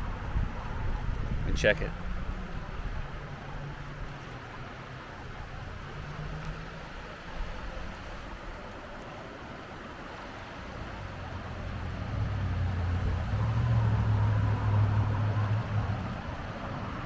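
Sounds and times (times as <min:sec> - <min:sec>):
river rushing: 0:00.0 - 0:17.0
vehicle engine hum: 0:00.0 - 0:17.0.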